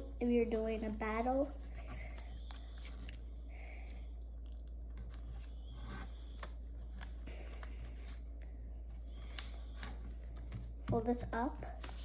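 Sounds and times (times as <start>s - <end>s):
steady low hum: 0.0s - 12.0s
paper folding clicks and rustles: 0.7s - 3.2s, 4.4s - 12.0s.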